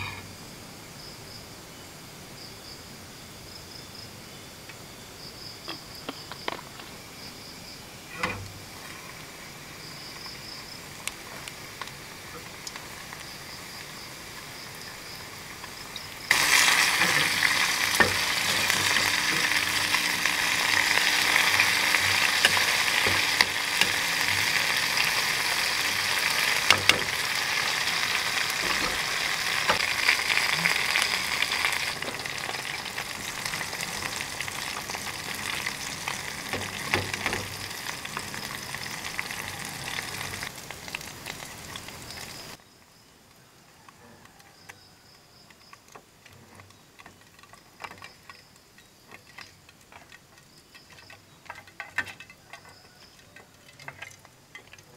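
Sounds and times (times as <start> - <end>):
food deep-frying in oil: 6.0 - 42.6, 44.2 - 54.9.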